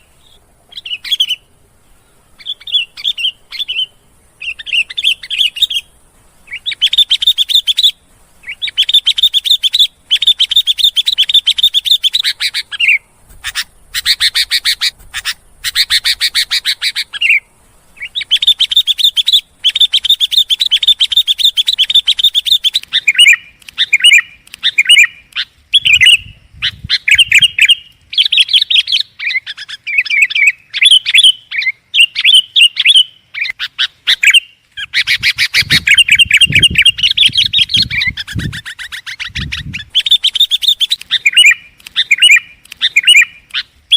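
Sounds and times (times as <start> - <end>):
bird chattering song: 0.0 - 43.9.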